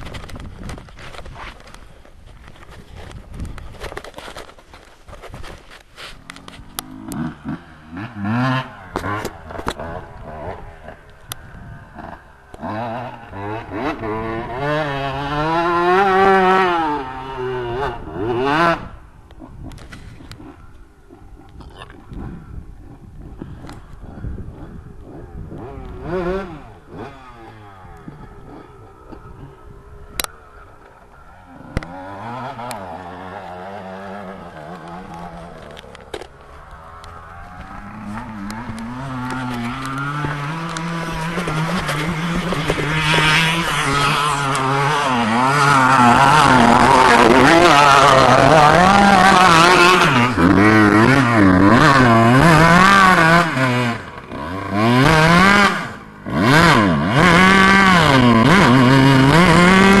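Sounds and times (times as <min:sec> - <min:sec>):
dirt bike engine revving: 0:06.1 - 1:00.0.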